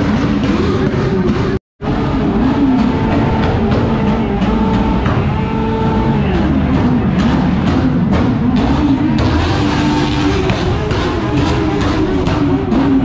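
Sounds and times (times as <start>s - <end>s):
music with drum beat: 0.0s - 13.0s.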